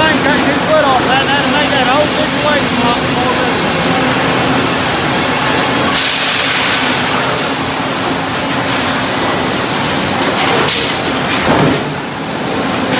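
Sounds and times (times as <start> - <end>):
sawmill machinery din: 0.0 - 12.9.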